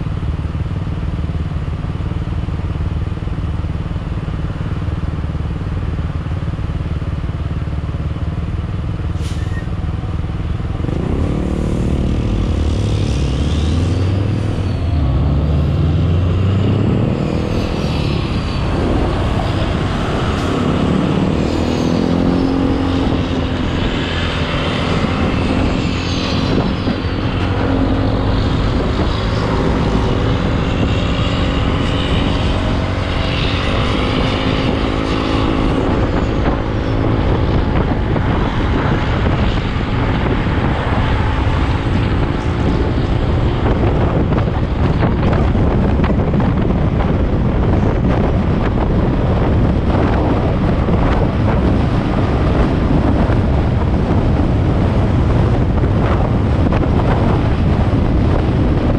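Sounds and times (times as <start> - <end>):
steady low rumble: 0.0 - 58.9
vehicle engine accelerating: 0.0 - 58.9.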